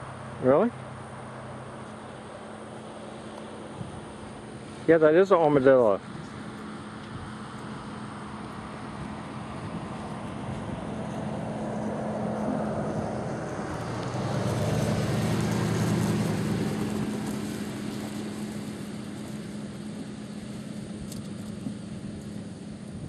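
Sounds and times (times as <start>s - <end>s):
engine passing by: 0.0s - 23.0s.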